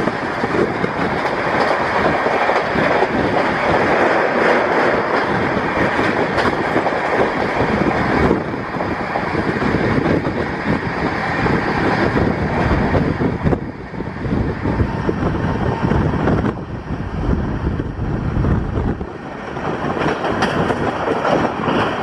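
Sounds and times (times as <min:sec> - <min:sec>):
rush of wind: 0:00.0 - 0:22.0
train wheels rumbling on rails: 0:00.0 - 0:22.0.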